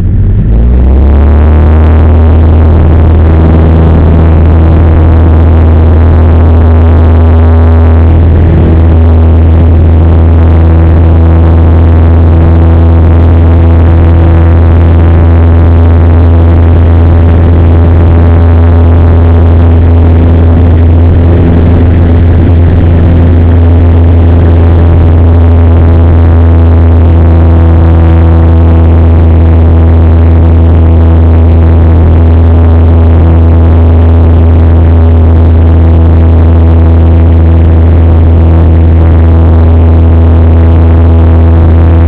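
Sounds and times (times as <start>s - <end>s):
airplane engine and propeller drone: 0.0s - 42.0s.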